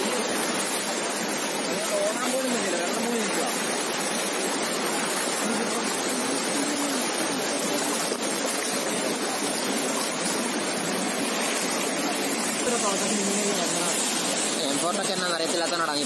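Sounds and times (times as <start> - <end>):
flooded river rushing: 0.0 - 16.0.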